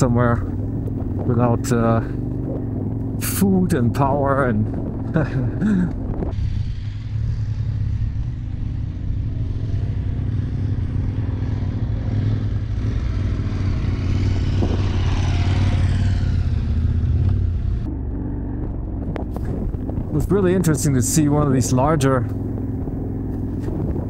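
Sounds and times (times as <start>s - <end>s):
gravel noise: 0.0s - 24.0s
motorcycle engines humming: 0.0s - 24.0s
motorcycle riding up close: 0.0s - 24.0s
wind: 0.0s - 24.0s.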